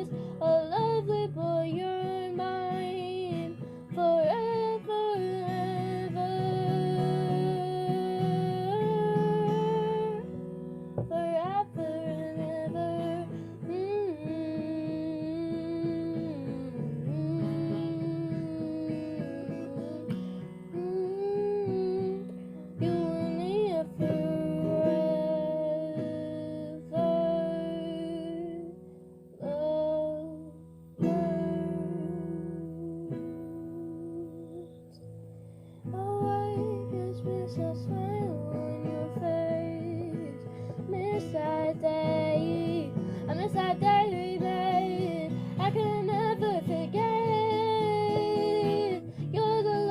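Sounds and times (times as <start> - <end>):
person singing wordless melody: 0.0 - 10.4, 11.0 - 20.2, 20.8 - 28.8, 29.4 - 35.0, 35.9 - 49.9
plucked acoustic guitar: 0.0 - 49.9.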